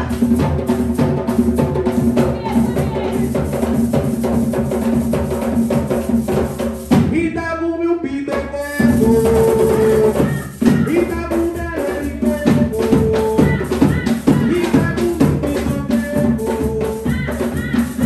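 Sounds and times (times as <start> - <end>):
voices singing: 0.0 - 5.2, 6.9 - 18.0
hand drums beating: 0.0 - 7.4, 8.3 - 18.0.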